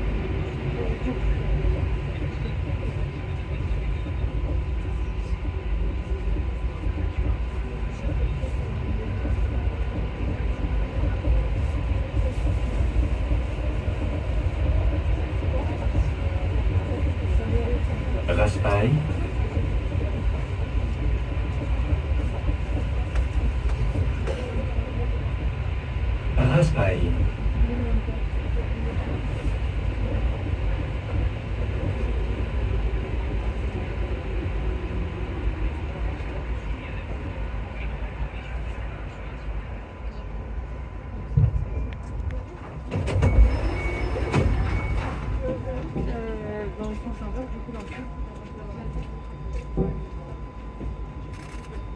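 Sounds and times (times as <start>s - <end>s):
train rumble in tunnel: 0.0s - 51.9s.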